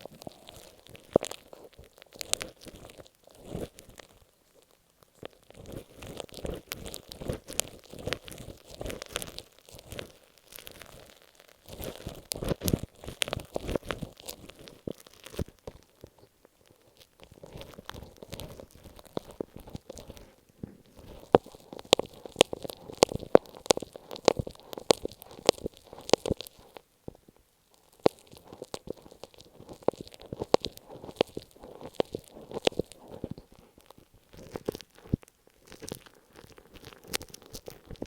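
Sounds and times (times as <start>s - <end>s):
masking tape crinkling: 0.0s - 38.0s.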